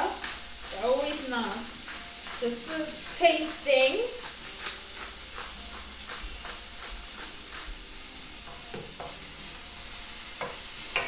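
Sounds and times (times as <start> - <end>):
food sizzling in oil: 0.0 - 11.0
utensil stirring against pan: 0.0 - 11.0.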